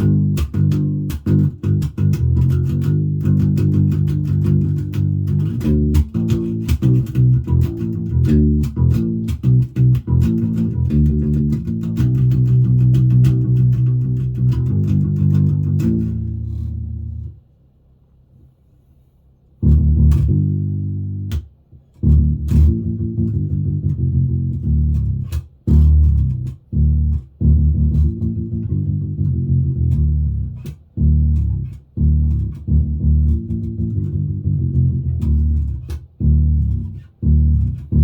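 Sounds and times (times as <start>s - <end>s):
electric bass plucked notes: 0.0s - 17.4s, 19.6s - 38.0s.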